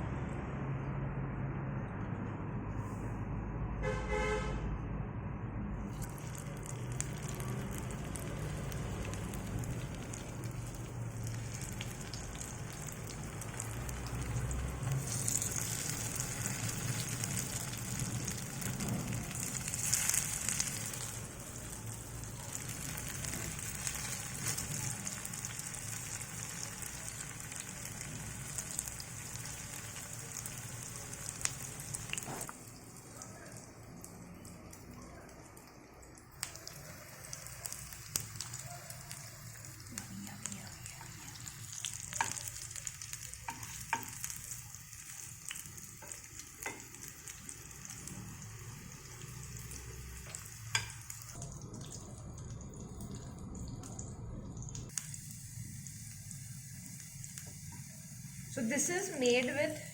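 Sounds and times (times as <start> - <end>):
cutlets sizzling in hot oil: 5.9 - 59.9.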